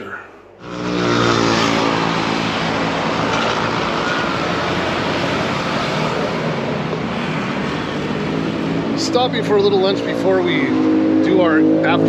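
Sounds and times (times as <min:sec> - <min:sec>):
road noise: 0:00.0 - 0:12.0
vehicle engine hum: 0:00.4 - 0:12.0.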